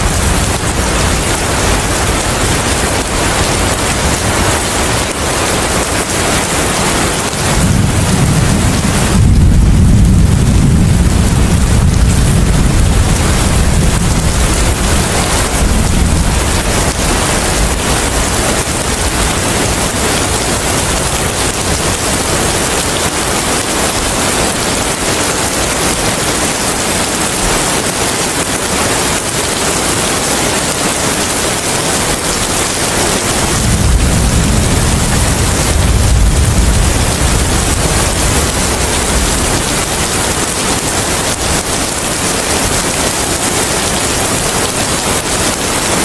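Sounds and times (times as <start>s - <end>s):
heavy rain hiss: 0.0s - 46.0s
low wind rumble: 0.0s - 46.0s.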